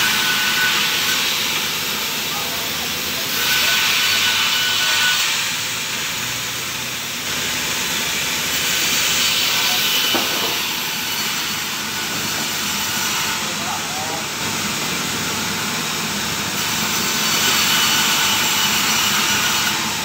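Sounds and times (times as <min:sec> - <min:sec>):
sawmill saw hissing: 0:00.0 - 0:20.0.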